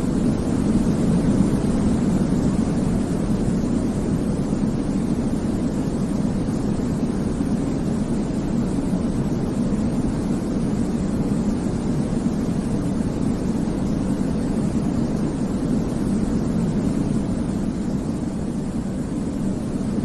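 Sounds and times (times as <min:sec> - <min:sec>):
deep rumbling white noise: 0:00.0 - 0:20.0.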